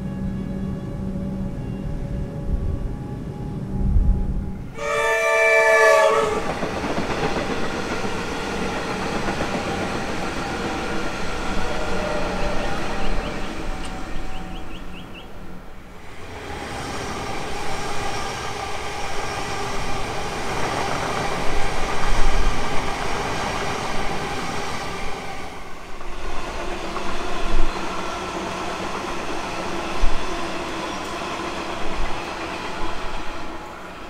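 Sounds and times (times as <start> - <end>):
wheels rushing on rail: 0.0 - 34.0.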